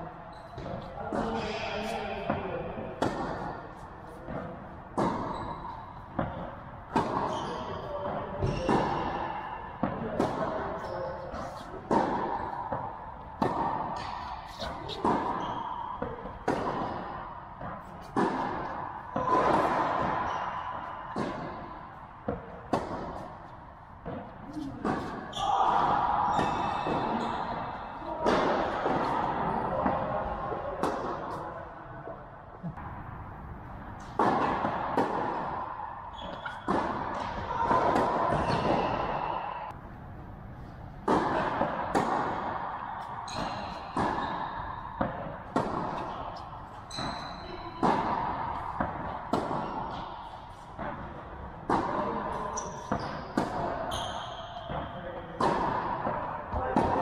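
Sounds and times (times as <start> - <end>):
tennis ball bouncing on court: 0.3 - 31.6, 34.0 - 39.7, 41.0 - 57.0
tennis ball hit by racquet: 0.6 - 31.6, 34.0 - 39.7, 41.0 - 57.0.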